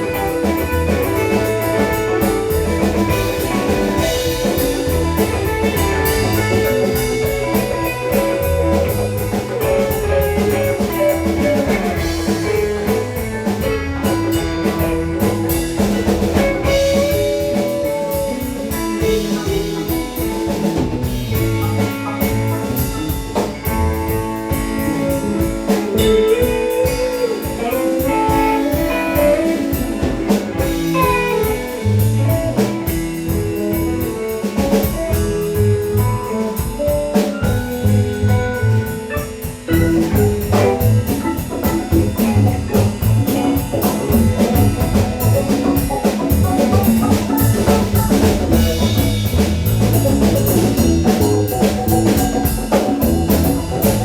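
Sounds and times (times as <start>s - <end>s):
lead guitar with bent notes: 0.0s - 54.0s
live band playing: 0.0s - 54.0s.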